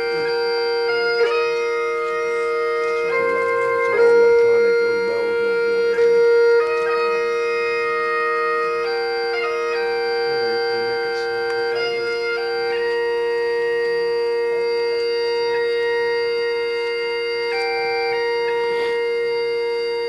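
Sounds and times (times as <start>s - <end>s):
carillon playing slow melody: 0.0s - 20.0s
steady drone: 0.0s - 20.0s.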